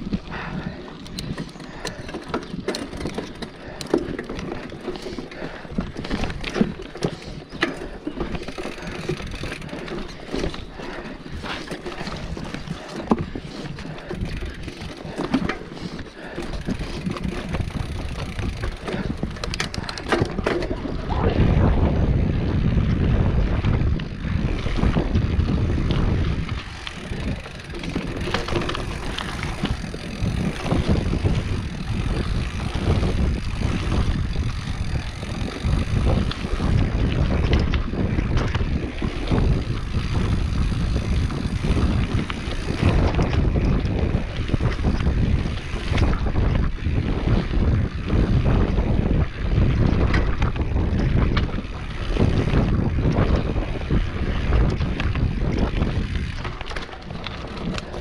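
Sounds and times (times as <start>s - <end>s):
wheels knocking on rocks: 0.0s - 21.8s, 22.7s - 58.0s
bike frame and chain rattling: 0.0s - 58.0s
wind buffeting microphone: 0.0s - 58.0s.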